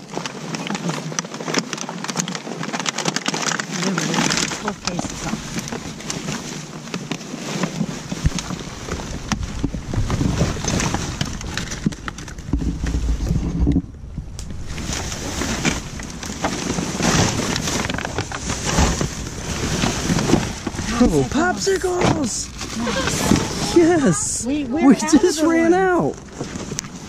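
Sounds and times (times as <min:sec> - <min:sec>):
plastic bags and cardboard rustling: 0:00.0 - 0:27.0
low rumble: 0:04.3 - 0:06.9, 0:07.8 - 0:27.0.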